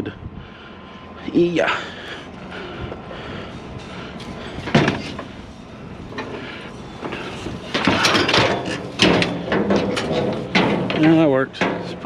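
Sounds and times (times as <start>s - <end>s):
metal bed frame clanking: 1.9s - 12.0s.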